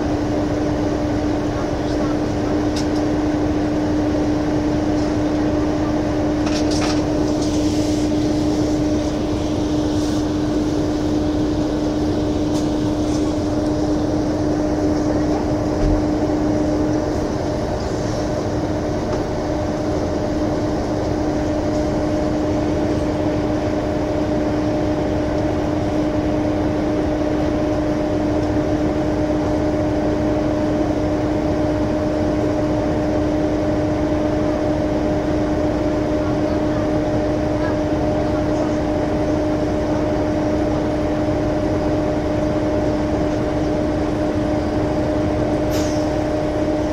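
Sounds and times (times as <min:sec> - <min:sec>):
bus engine idling: 0:00.0 - 0:46.9.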